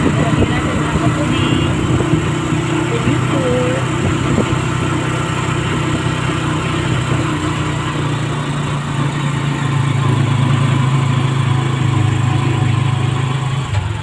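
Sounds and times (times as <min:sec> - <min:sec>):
road and wind hiss: 0:00.0 - 0:14.0
vehicle engine drone: 0:00.0 - 0:14.0.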